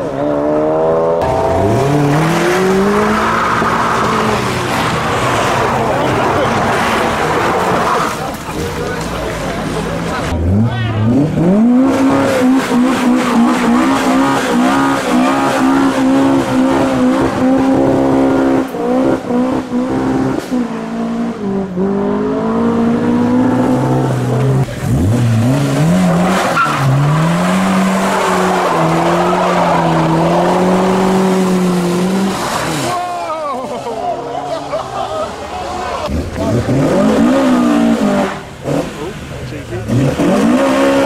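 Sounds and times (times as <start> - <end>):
car engine revving hard: 0.0 - 8.4, 10.0 - 33.0, 36.0 - 41.0.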